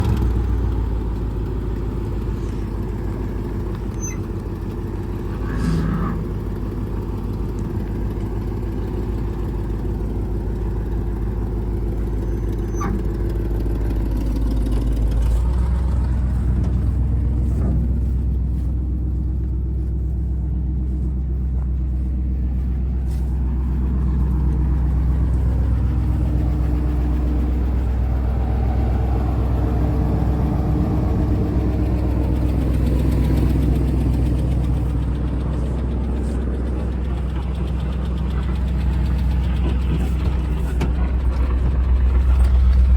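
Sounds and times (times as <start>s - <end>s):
pickup truck engine idling: 0.0s - 42.9s.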